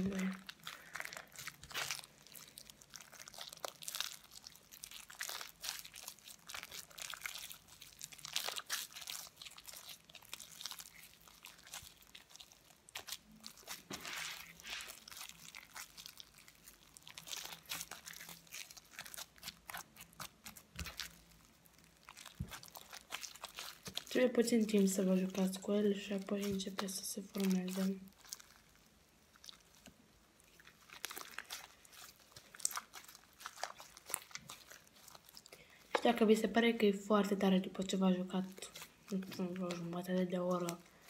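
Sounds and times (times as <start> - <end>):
slime crackling: 0.0 - 41.0.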